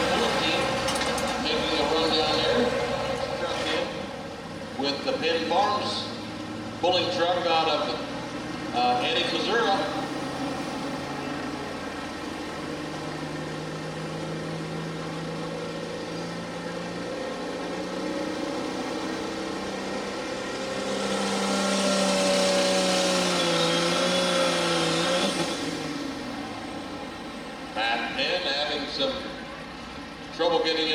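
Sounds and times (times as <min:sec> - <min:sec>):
diesel truck engine revving: 0:00.0 - 0:30.9.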